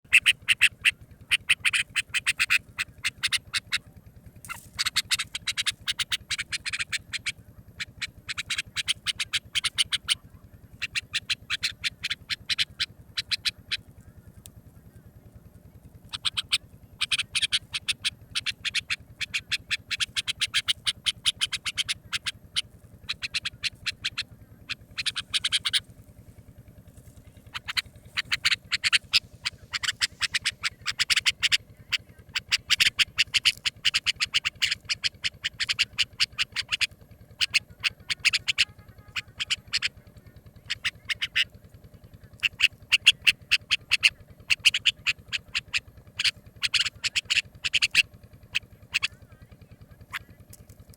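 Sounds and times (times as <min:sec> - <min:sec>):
bird chattering calls: 0:00.0 - 0:50.9
faint low hum: 0:00.0 - 0:50.9.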